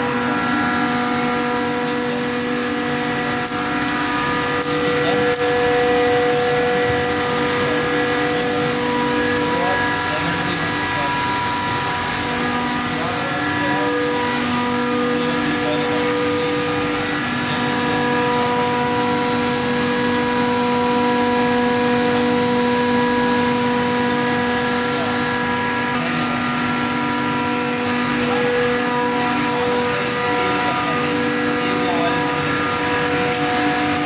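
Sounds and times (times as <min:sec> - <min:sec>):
machinery drone with whining tones: 0:00.0 - 0:34.0.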